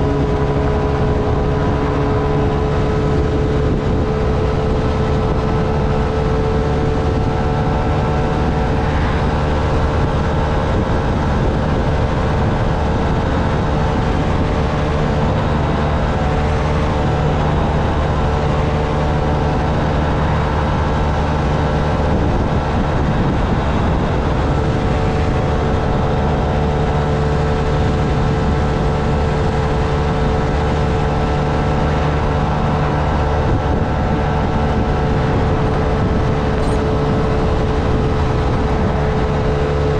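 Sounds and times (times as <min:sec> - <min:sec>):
rushing noise: 0:00.0 - 0:39.9
small motorcycle engine running: 0:00.0 - 0:39.9.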